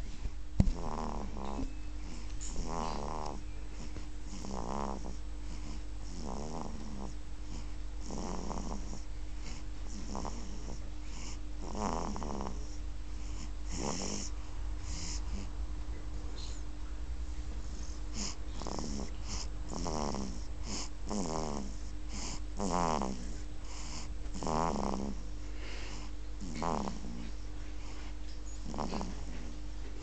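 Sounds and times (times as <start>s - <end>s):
snoring with hissing out-breath: 0.7s - 15.5s, 17.6s - 29.5s.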